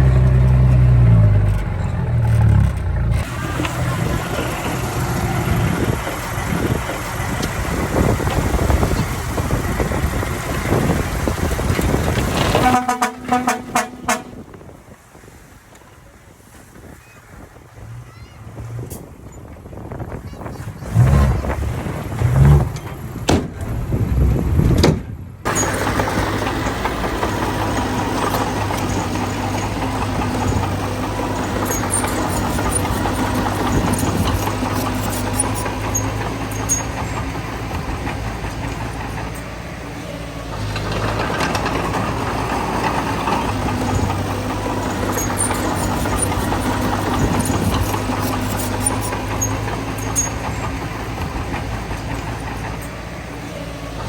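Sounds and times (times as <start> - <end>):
heavy diesel engine running: 0.0 - 15.1, 19.1 - 54.0.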